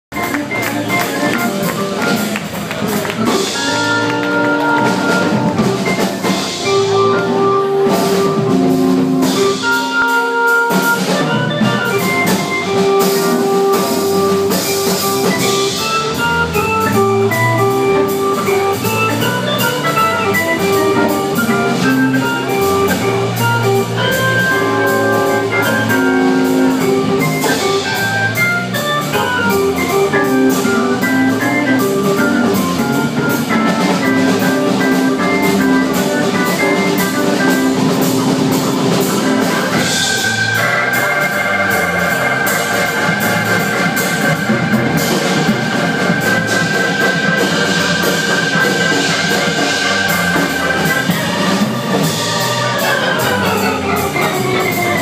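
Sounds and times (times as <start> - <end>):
sustained keyboard chords: 0.1 - 55.0.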